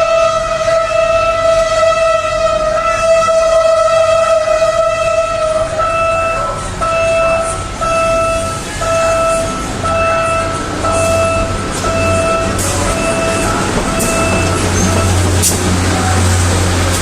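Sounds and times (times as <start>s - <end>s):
approaching train rumble: 0.0s - 17.0s
railway warning alarm beeping: 0.0s - 17.0s.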